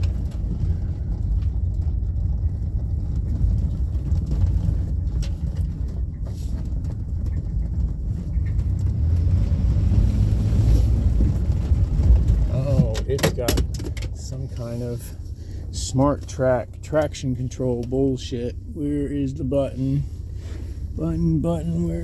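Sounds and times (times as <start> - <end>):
suv engine rumbling under load: 0.0 - 22.0.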